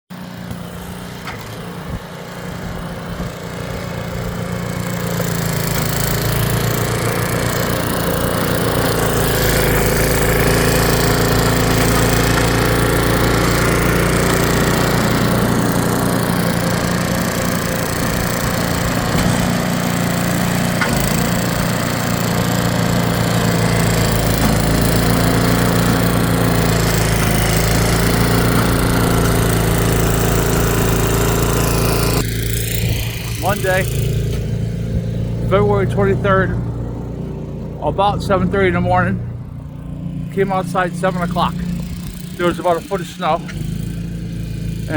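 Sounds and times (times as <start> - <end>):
snowblower engine running: 0.1 - 44.9.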